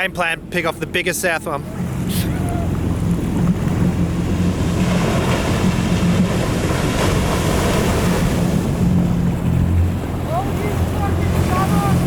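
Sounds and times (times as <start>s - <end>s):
boat engine idling: 0.0s - 12.0s
ocean surf rushing: 0.0s - 12.0s.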